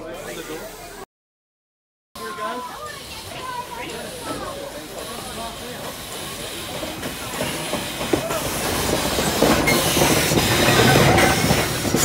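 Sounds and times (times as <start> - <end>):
steam locomotive rolling past: 2.2 - 12.0.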